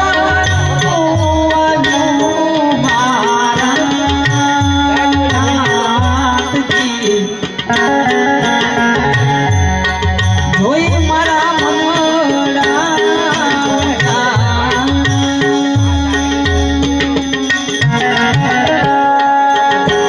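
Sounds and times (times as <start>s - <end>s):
harmonium melody: 0.0s - 20.0s.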